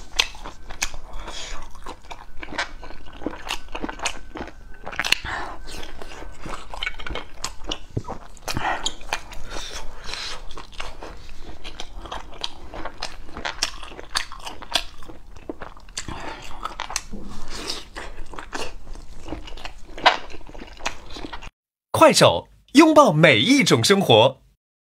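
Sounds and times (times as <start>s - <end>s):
person chewing: 0.0s - 21.5s.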